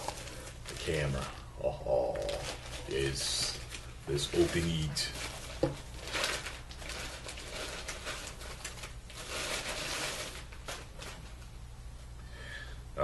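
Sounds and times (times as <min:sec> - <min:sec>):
wrapping sheet rustling: 0:00.0 - 0:11.6.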